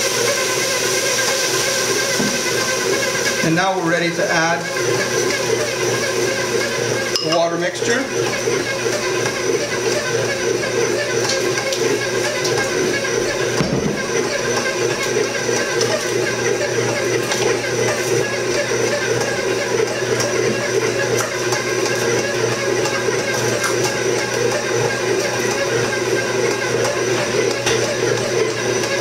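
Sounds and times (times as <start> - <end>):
stand mixer motor running: 0.0 - 29.0
dough hook churning dough: 0.1 - 29.0.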